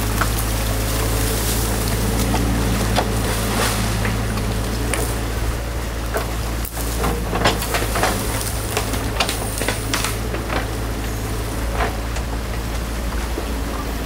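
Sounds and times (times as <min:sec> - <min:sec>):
diesel engine running: 0:00.0 - 0:14.0
stream water rushing: 0:00.0 - 0:14.0.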